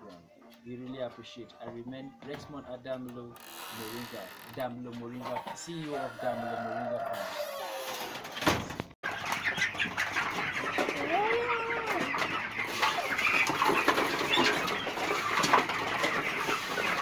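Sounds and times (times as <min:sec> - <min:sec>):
chicks peeping: 0:00.0 - 0:08.1, 0:09.0 - 0:17.0.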